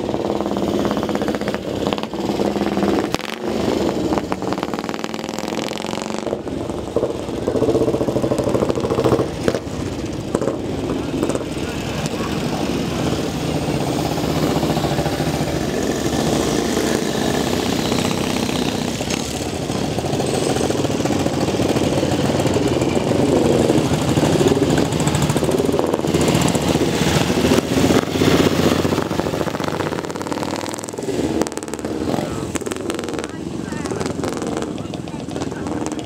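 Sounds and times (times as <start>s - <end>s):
motorcycle engines passing: 0.0s - 36.0s.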